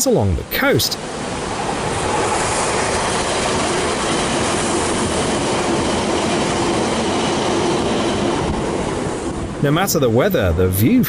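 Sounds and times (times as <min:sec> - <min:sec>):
train wheels rumbling on rails: 0:00.4 - 0:11.0.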